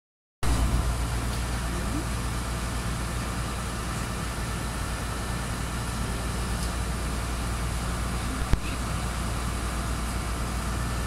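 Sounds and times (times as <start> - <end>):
boat engine drone: 0.4 - 11.0
constant low hum: 0.4 - 11.0.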